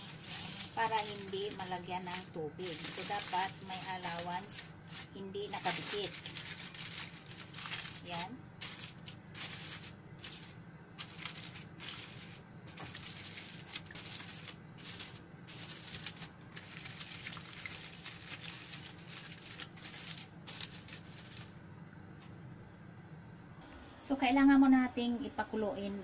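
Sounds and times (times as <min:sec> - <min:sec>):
aluminium foil crinkling: 0:00.0 - 0:21.6.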